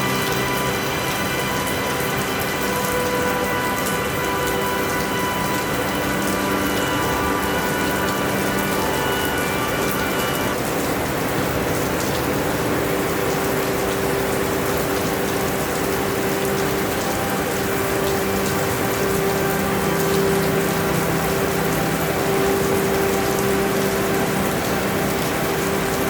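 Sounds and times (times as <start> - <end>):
raindrop ticks: 0.0 - 26.0
steady rainfall: 0.0 - 26.0.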